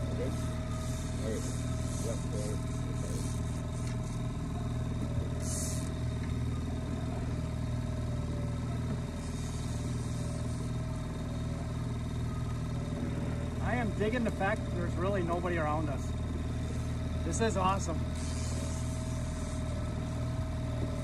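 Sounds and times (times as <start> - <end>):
outboard motor humming: 0.0 - 21.0.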